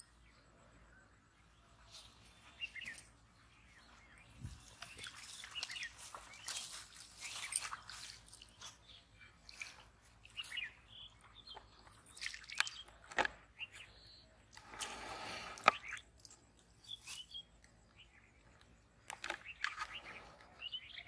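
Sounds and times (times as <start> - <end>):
bird chirps: 0.0 - 21.0.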